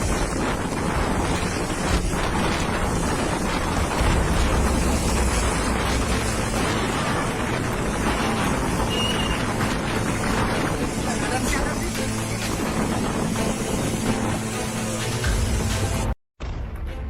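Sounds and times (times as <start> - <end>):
strong wind buffeting microphone: 0.0 - 15.2.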